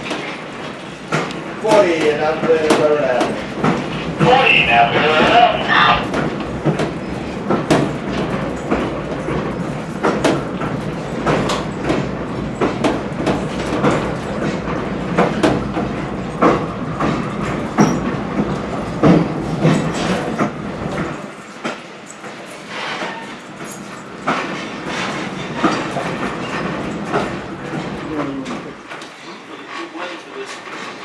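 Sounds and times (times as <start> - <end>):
train coach rumbling on track: 0.0 - 31.0
wheels clacking and knocking: 0.0 - 31.0.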